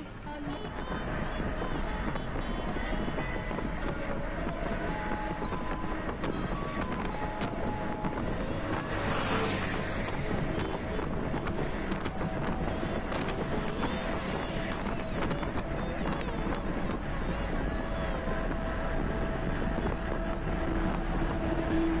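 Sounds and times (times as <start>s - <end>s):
car wind and road noise: 0.0s - 22.0s
rush of passing vehicle: 0.0s - 22.0s.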